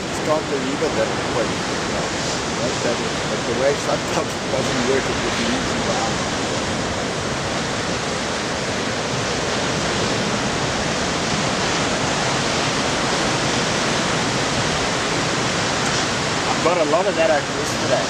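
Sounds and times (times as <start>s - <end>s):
ocean surf breaking on rocks: 0.0s - 18.0s.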